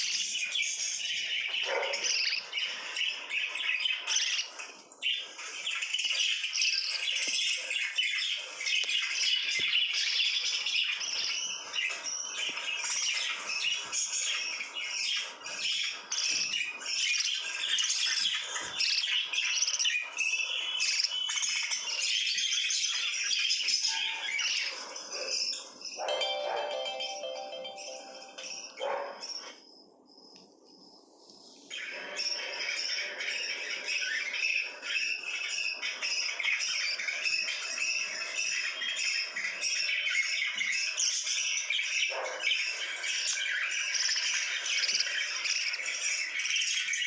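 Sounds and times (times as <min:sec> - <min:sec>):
lovebirds chattering and chirping: 0:00.0 - 0:47.0.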